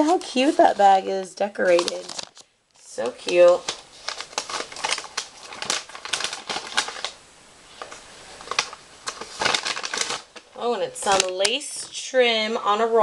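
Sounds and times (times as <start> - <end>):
paper bag crinkling: 0.0 - 11.9.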